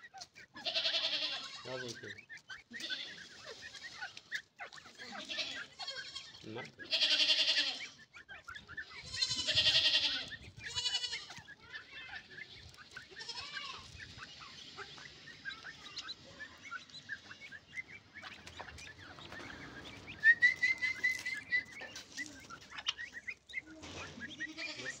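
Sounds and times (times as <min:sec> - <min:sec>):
high bird trill: 0:00.0 - 0:25.0
partridges calling harshly: 0:00.0 - 0:25.0
short chirps and peeps: 0:00.0 - 0:25.0.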